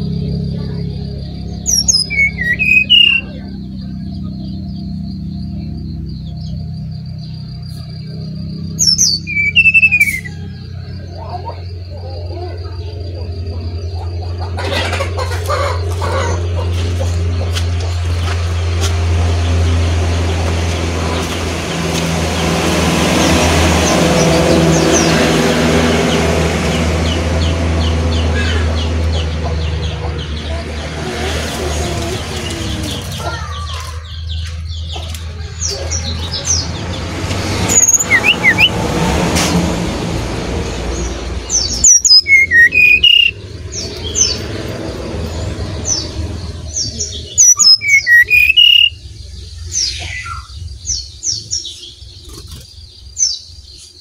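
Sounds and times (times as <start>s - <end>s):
motor vehicle humming: 0.0s - 54.0s.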